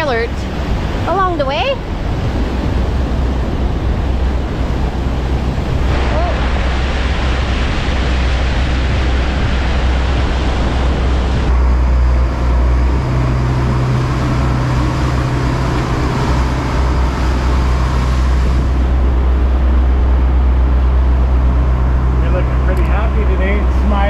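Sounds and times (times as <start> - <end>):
boat engines humming: 0.0 - 24.0
rushing wind and water: 0.0 - 24.0.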